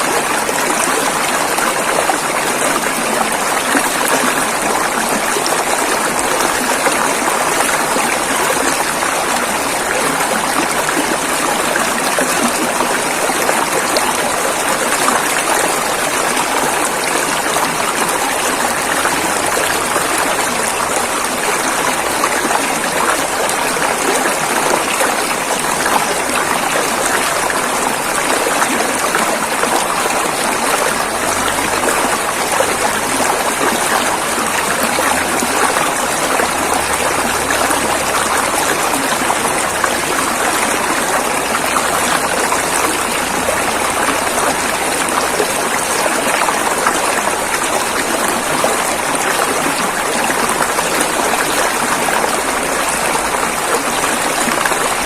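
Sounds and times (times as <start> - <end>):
river running over rocks: 0.0 - 55.0.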